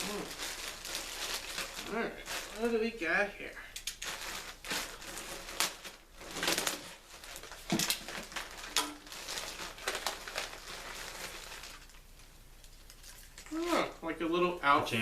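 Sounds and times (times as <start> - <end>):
packaging rustling and crinkling: 0.0 - 3.0, 3.8 - 13.9.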